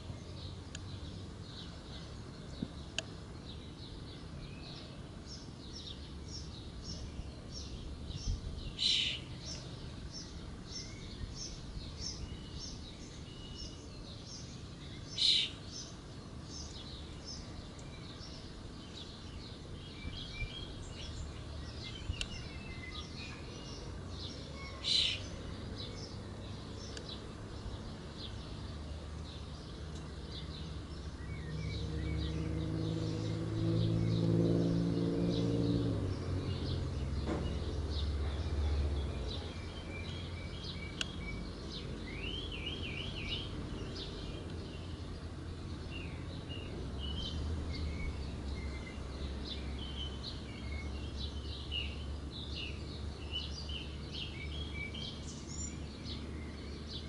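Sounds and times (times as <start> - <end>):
birds chirping: 0.0 - 57.0
vehicle engine hum: 0.0 - 57.0.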